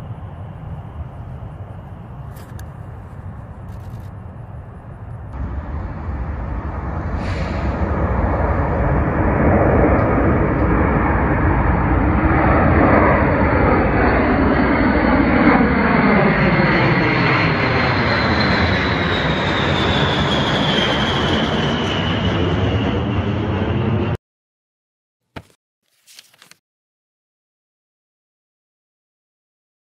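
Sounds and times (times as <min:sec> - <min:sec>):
high engine whine: 0:00.0 - 0:24.2
jet engines roaring overhead: 0:00.0 - 0:24.2.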